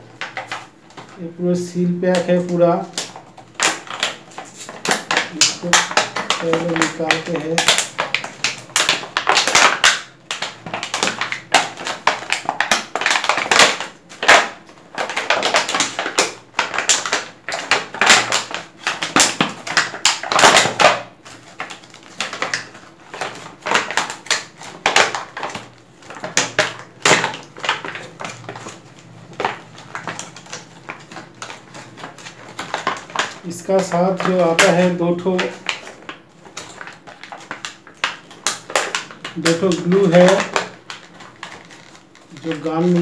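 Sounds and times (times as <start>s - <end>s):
plastic packaging crinkling: 0.0s - 43.0s.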